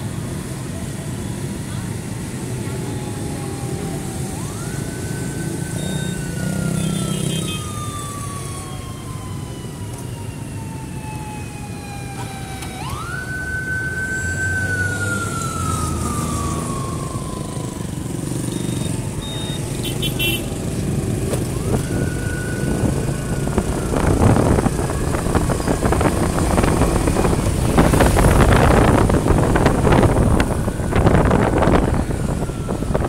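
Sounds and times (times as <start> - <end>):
motorbike engines passing: 0.0 - 33.0
siren wailing: 0.4 - 33.0.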